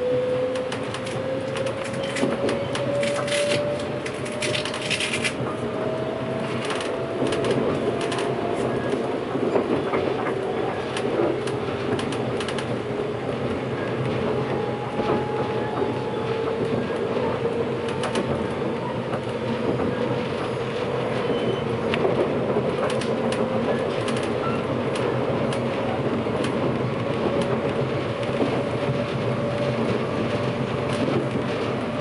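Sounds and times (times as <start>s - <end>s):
train running gear rumble: 0.0s - 32.0s
train traction motors whining: 0.0s - 32.0s
wheels clicking over rail joints: 0.5s - 32.0s.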